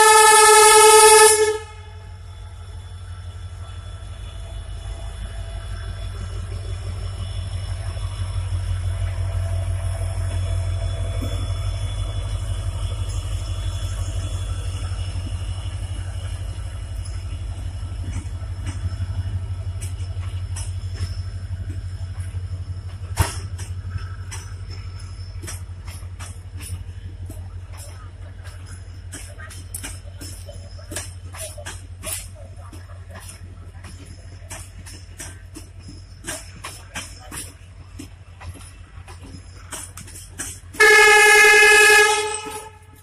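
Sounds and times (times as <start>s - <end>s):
diesel locomotive rumbling past: 0.0s - 43.0s
train coaches rolling by: 0.0s - 43.0s
wheels clicking over rail joints: 0.0s - 43.0s.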